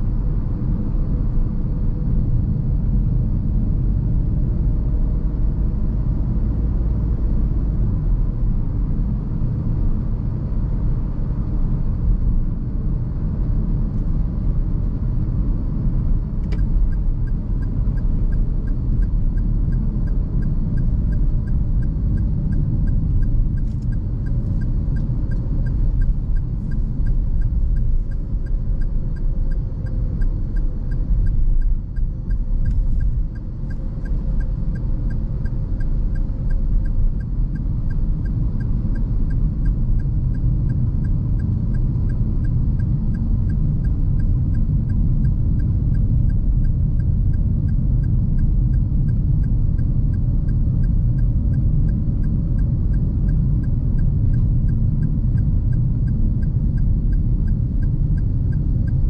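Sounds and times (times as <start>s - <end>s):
low rumble of tyres and engine: 0.0s - 59.0s
turn signal ticking: 9.2s - 59.0s.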